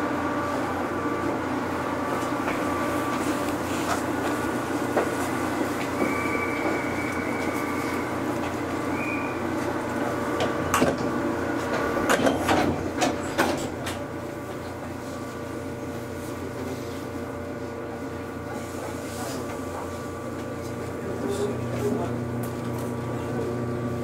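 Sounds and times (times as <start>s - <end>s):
electric train running hum: 0.0s - 24.0s.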